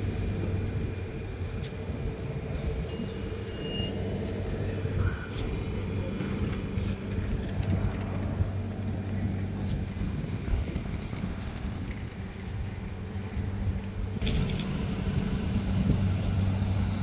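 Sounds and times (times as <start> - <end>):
tram humming: 0.0 - 17.0.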